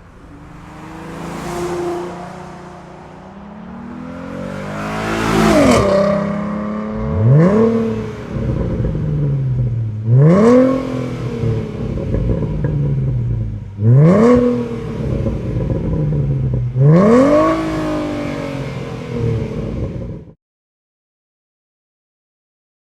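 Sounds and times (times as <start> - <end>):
car exhaust revving: 0.0 - 20.4.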